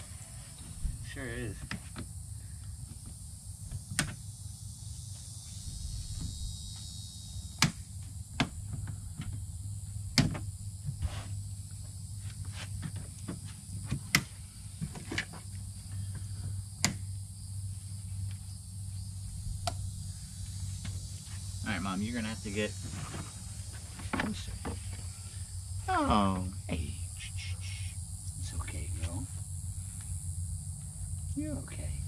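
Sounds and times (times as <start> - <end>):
steady high buzz: 0.0 - 32.0
steady low hum: 0.0 - 32.0.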